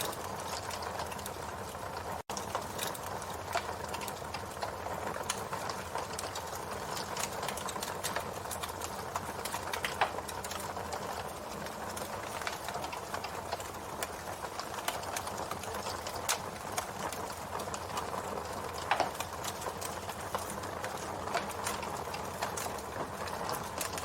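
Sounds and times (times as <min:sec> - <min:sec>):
popping wood crackle: 0:00.0 - 0:24.0.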